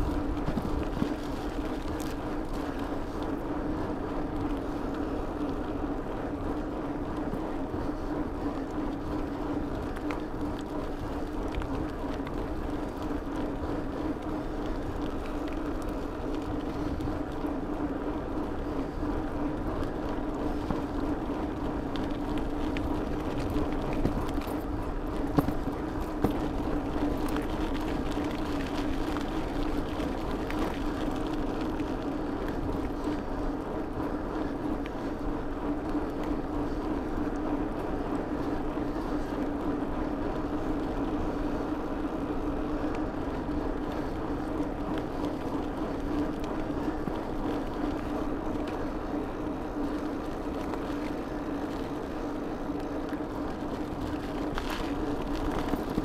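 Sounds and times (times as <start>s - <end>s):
bicycle tyres on rough road: 0.0s - 56.0s.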